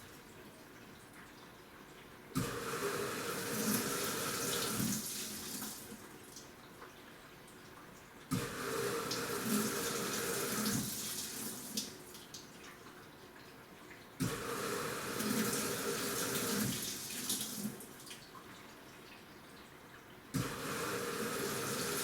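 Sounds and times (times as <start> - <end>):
water sloshing in washing machine: 0.0 - 22.0.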